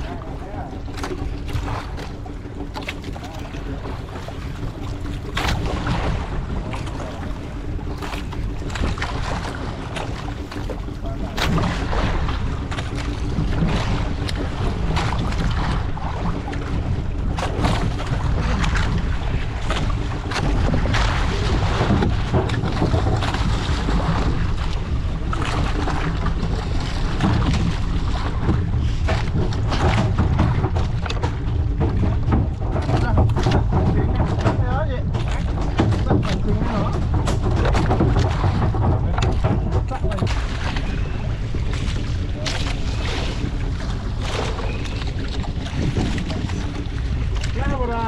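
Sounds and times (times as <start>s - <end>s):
boat motor running: 0.0s - 48.0s
wind buffeting microphone: 0.0s - 48.0s.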